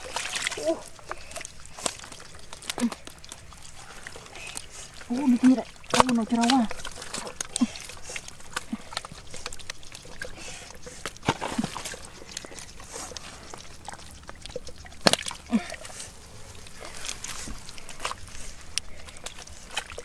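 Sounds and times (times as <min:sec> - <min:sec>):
hands squelching in wet mud: 0:00.0 - 0:20.0.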